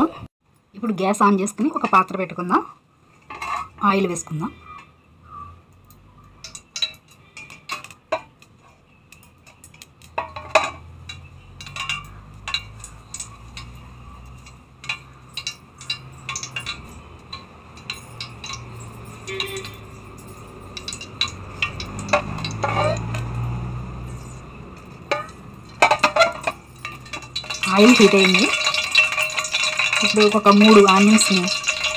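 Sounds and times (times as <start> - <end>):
pan and kitchenware clinking: 3.2 - 3.8, 6.4 - 31.9.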